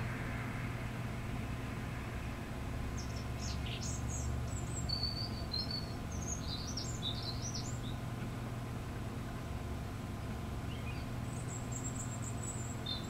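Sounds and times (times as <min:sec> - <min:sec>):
steady low hum: 0:00.0 - 0:13.0
small birds chirping: 0:01.4 - 0:09.1, 0:09.8 - 0:13.0.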